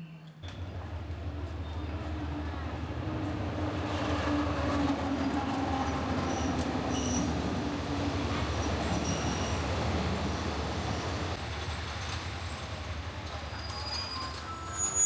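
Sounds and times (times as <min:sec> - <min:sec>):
wheels squeaking on rail: 0:00.2 - 0:15.0
train rumbling: 0:00.4 - 0:15.0.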